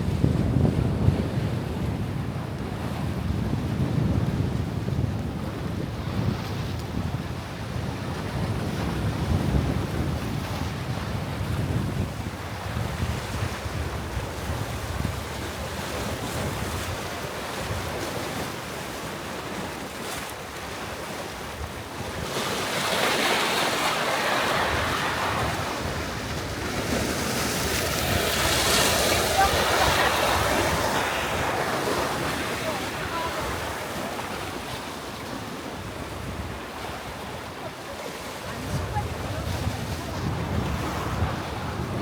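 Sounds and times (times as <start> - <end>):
surf washing onto beach: 0.0 - 42.0
wind buffeting microphone: 0.0 - 42.0.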